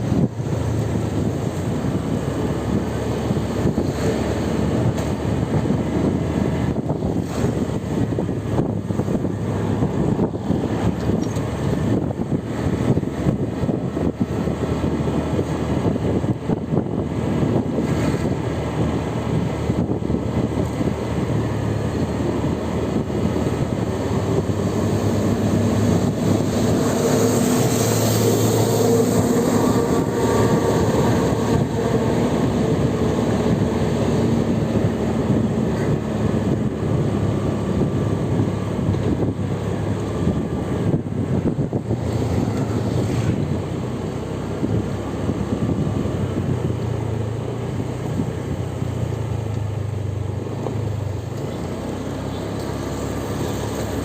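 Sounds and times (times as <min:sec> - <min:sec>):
vehicle engine: 0:00.0 - 0:54.0.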